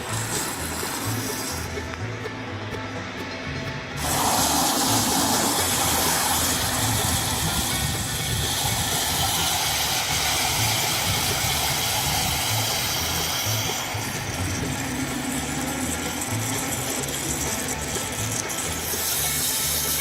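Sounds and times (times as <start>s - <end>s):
water running: 0.0s - 2.0s, 4.0s - 20.0s.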